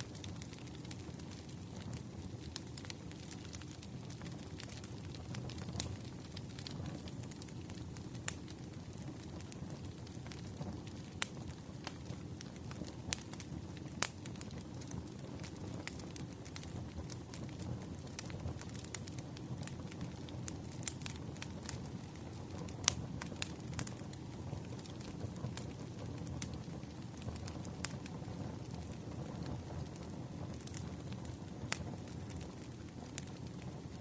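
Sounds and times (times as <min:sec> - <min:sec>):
low rumble of burning logs: 0:00.0 - 0:34.0
pops and snaps of fire: 0:00.0 - 0:34.0
wood fire crackling: 0:00.0 - 0:34.0.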